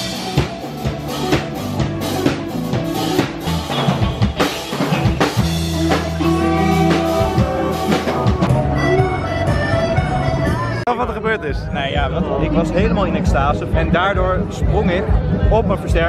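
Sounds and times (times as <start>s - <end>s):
drum kit beat: 0.0s - 16.0s
low bass notes: 0.0s - 16.0s
rock band playing: 0.0s - 16.0s.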